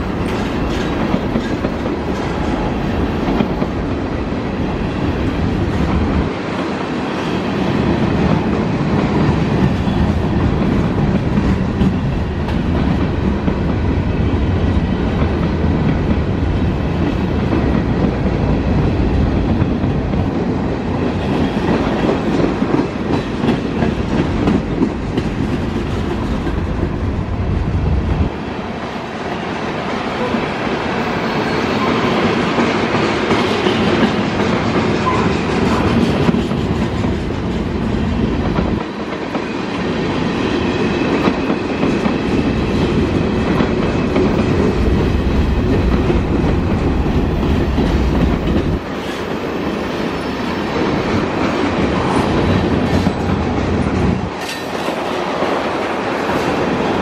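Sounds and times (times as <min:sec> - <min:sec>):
freight train cars rolling past: 0:00.0 - 0:57.0
steel wheels on rails: 0:00.0 - 0:57.0.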